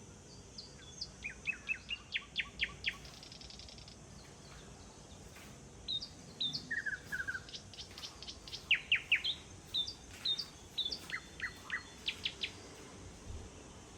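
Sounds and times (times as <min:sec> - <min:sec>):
songbirds chirping: 0:00.0 - 0:13.9.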